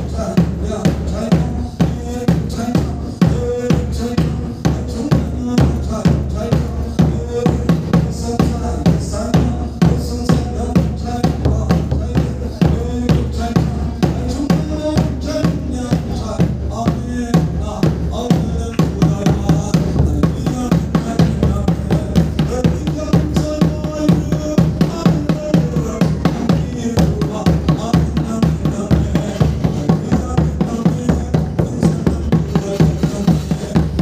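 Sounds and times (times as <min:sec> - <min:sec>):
steady drum beat: 0:00.0 - 0:34.0.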